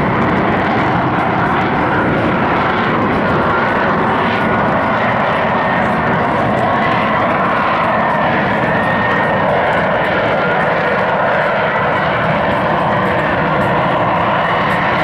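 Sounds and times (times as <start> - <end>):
jet engine roaring in flight: 0.0 - 15.0.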